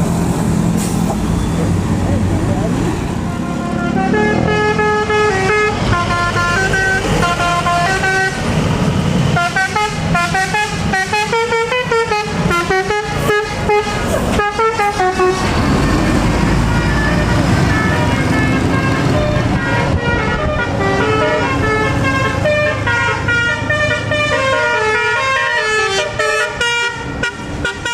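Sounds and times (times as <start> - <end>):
musical air horn playing a tune: 3.2 - 8.5, 9.4 - 15.5, 16.8 - 27.9.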